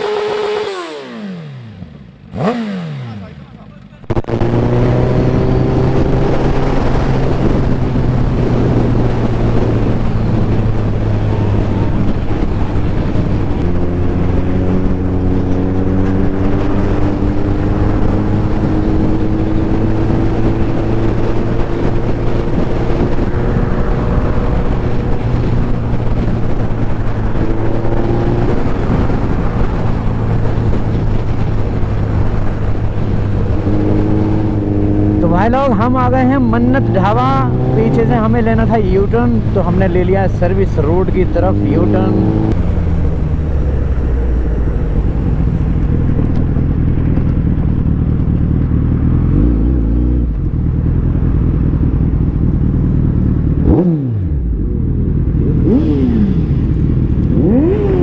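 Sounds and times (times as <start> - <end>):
motorcycle engine running: 0.0 - 58.0
wind on microphone: 4.2 - 58.0.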